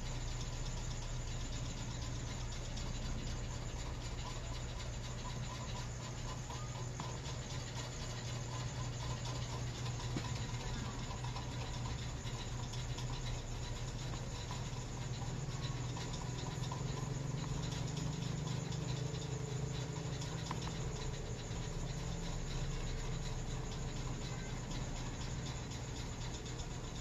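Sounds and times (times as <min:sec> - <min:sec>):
faint quick ticking: 0:00.0 - 0:27.0
low room hum: 0:00.0 - 0:27.0.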